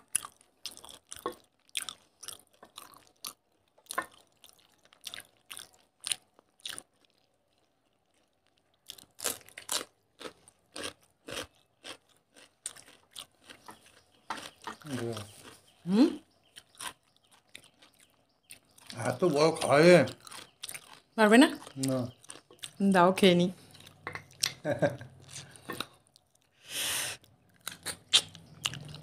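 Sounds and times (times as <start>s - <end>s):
people chewing food: 0.0s - 29.0s.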